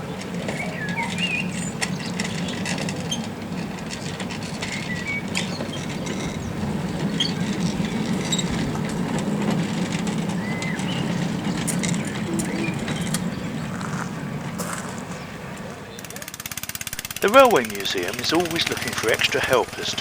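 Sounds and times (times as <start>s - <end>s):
birds chirping: 0.0s - 20.0s
light track clicks: 0.0s - 20.0s
miniature train running on track: 0.0s - 20.0s.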